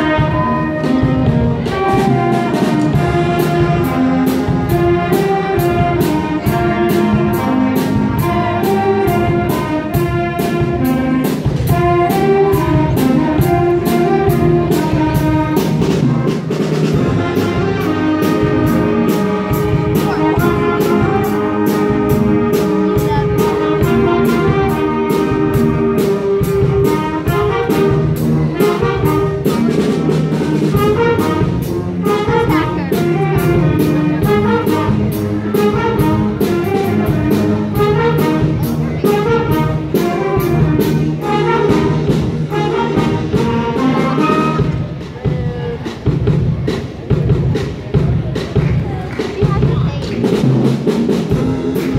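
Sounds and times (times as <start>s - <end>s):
concert band playing: 0.0s - 51.9s
steady drum beat: 0.0s - 51.9s.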